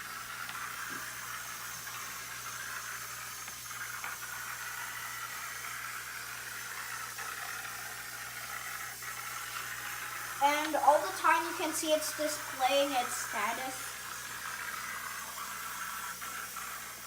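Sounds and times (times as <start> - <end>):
robot electric motors whirring: 0.0 - 17.0.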